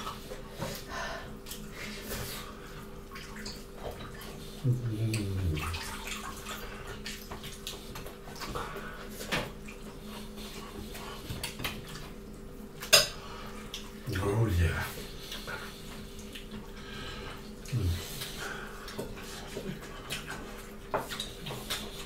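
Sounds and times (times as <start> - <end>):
low mm hum: 0.0 - 20.8
chewing and wet mouth sounds: 0.0 - 22.0.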